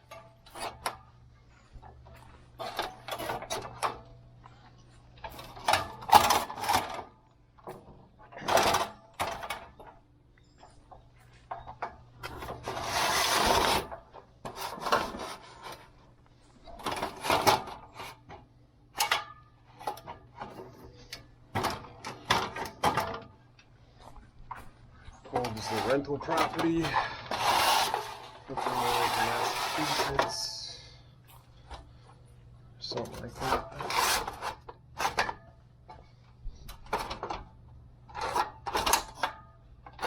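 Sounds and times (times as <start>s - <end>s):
scraping rustling and clattering: 0.0s - 32.2s.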